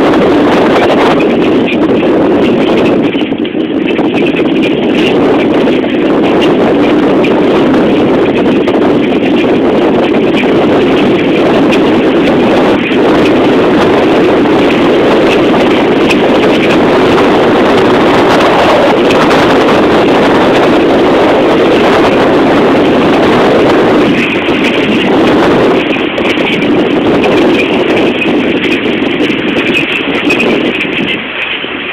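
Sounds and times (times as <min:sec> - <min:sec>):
vehicle engine and road rumble: 0:00.0 - 0:31.9
wind buffeting microphone: 0:00.0 - 0:31.9.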